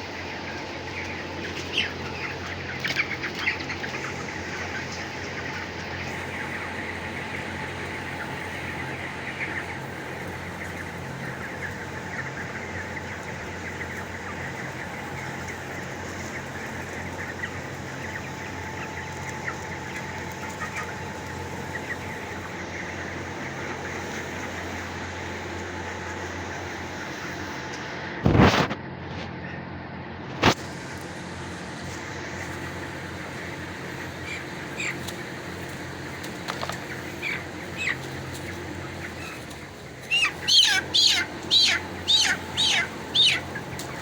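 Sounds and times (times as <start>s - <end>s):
chicks peeping: 0.0s - 44.0s
low mechanical hum: 0.0s - 44.0s.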